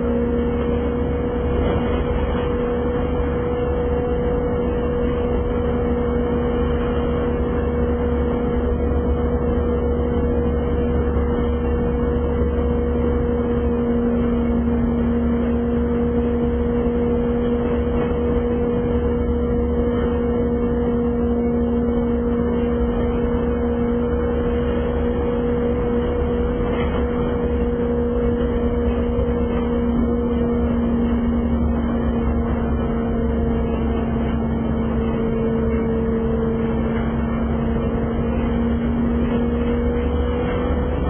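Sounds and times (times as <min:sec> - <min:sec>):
bus engine hum: 0:00.0 - 0:41.0
road rumble: 0:00.0 - 0:41.0.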